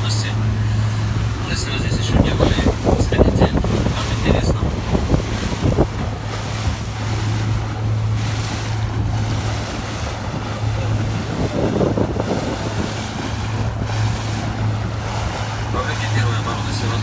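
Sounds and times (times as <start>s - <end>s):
boat engine droning: 0.0s - 17.0s
water rushing against hull: 0.0s - 17.0s
wind buffeting microphone: 0.0s - 17.0s.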